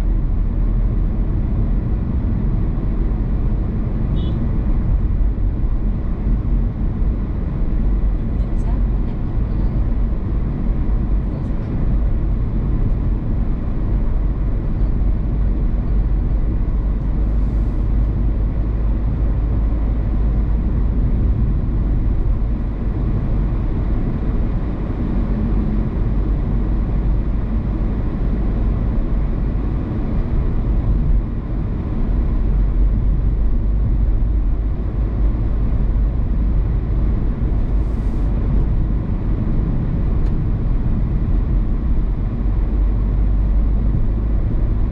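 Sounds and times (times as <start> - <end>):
car tyre and engine rumble: 0.0 - 44.9.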